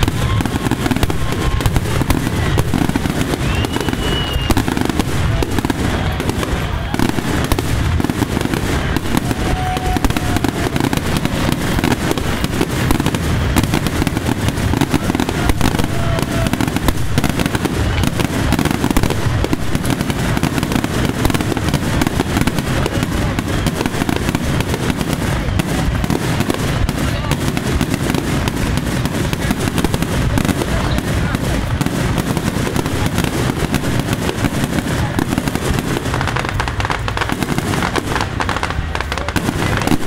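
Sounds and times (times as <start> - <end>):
fireworks booms and crackle: 0.0 - 40.0.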